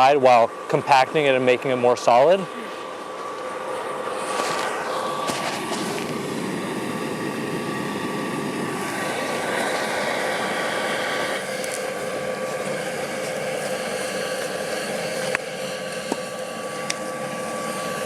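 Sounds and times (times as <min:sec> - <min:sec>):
furnace air blower droning: 0:00.0 - 0:18.0.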